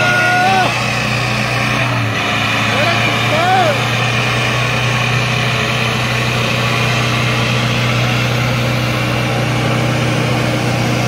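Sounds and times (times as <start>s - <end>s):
tractor diesel engines droning: 0.0s - 11.0s.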